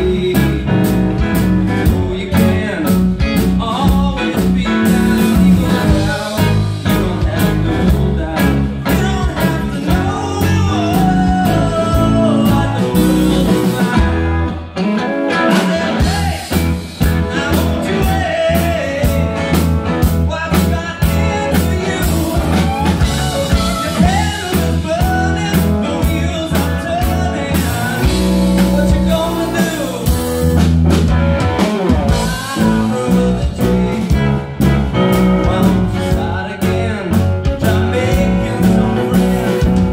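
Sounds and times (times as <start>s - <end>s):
bass guitar: 0.0s - 39.9s
drum kit: 0.0s - 39.9s
electric guitar: 0.0s - 39.9s
keyboard: 0.0s - 39.9s.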